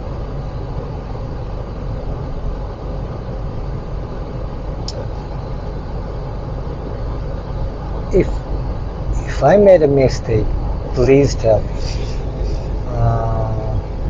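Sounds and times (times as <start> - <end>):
car interior road and engine noise: 0.0 - 14.0.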